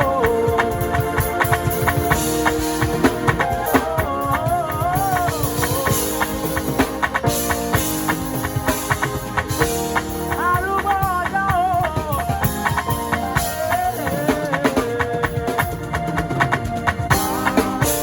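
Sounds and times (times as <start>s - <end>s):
drum kit beat: 0.0s - 18.0s
live band playing: 0.0s - 18.0s.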